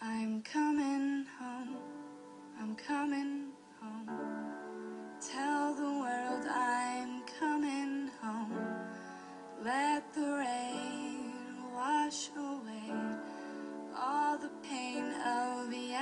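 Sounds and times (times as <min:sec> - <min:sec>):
woman singing: 0:00.0 - 0:04.6, 0:05.2 - 0:16.0.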